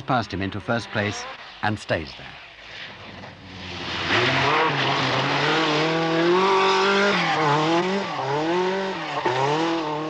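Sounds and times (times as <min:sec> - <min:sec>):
rally car engine revving: 0:00.0 - 0:01.6, 0:02.8 - 0:10.0.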